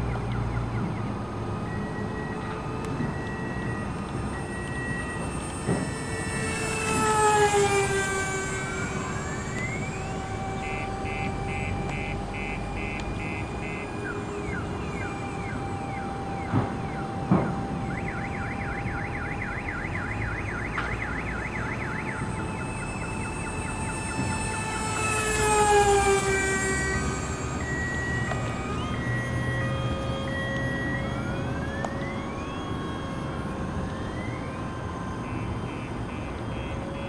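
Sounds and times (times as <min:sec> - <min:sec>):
electric ducted fans whining: 0:00.0 - 0:37.0.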